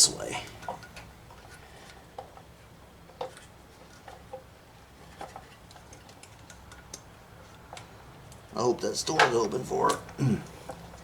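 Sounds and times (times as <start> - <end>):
clicks of handling engine parts: 0.4 - 11.0.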